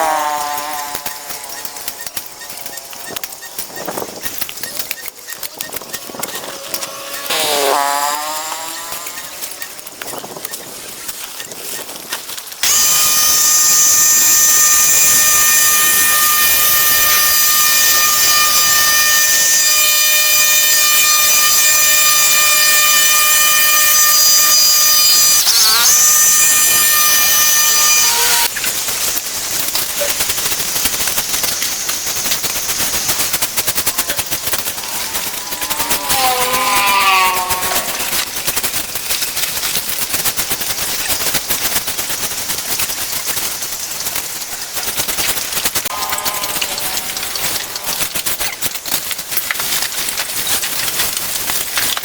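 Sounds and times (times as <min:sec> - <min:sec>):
rough engine sound: 0:00.0 - 0:04.6, 0:05.8 - 0:10.1, 0:12.6 - 0:48.3
small engine whining: 0:00.0 - 0:11.4, 0:12.0 - 0:48.8.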